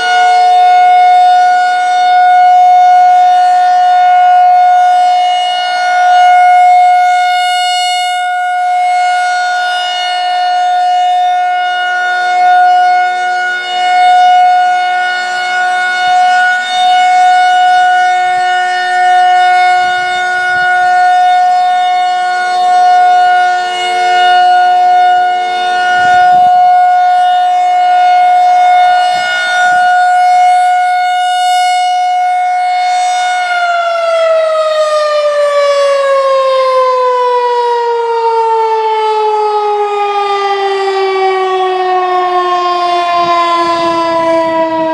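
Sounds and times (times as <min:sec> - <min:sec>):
outdoor warning siren steady tone: 0:00.0 - 0:44.9.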